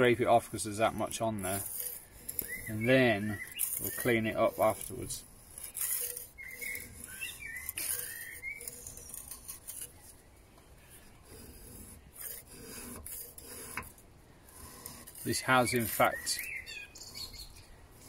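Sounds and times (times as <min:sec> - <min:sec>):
scraper blade scraping grease off metal: 0:00.0 - 0:18.0.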